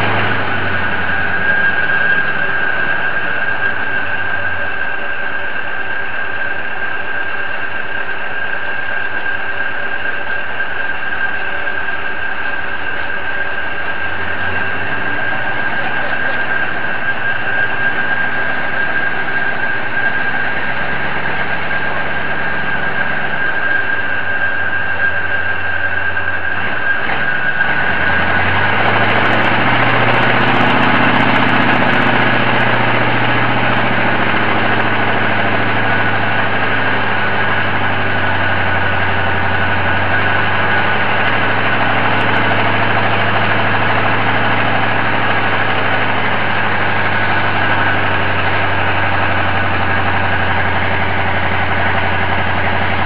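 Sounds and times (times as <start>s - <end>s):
crane engine revving under load: 0.0s - 53.0s
steady high whine: 0.0s - 53.0s.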